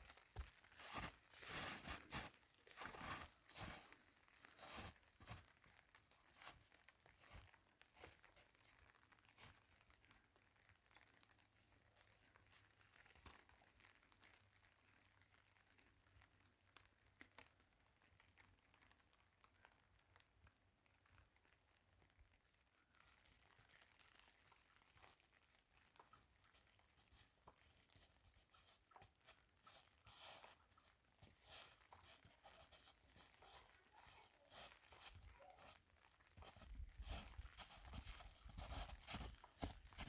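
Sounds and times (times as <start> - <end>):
faint crunching and crinkling: 0.0 - 40.0.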